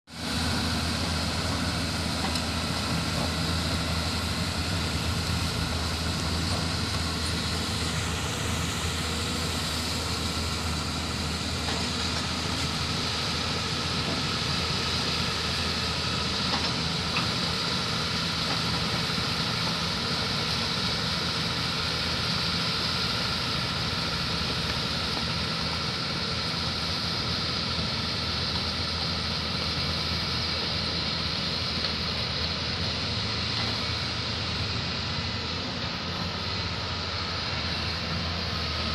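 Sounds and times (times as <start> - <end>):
diesel engine of heavy machinery: 0.0 - 38.9.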